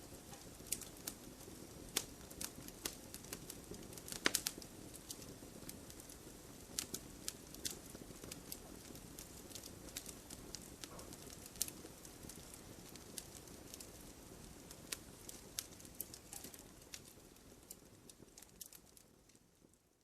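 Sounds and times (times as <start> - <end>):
low rush of flames: 0.0 - 19.9
logs crackling and popping: 0.0 - 20.0.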